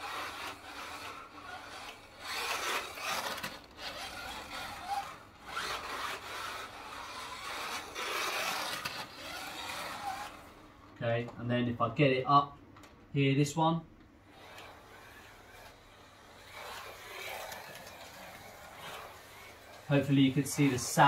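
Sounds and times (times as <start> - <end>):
slot car motor hissing: 0.0 - 10.6, 14.3 - 21.0.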